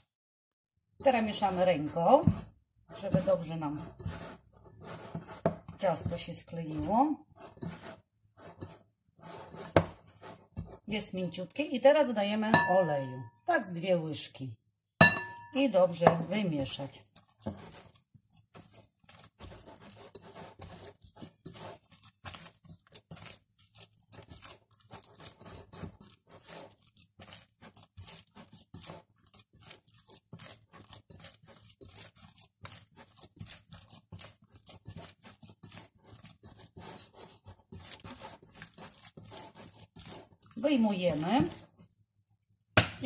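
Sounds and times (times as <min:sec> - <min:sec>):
hand kneading dough: 0:01.0 - 0:14.2, 0:15.1 - 0:43.0.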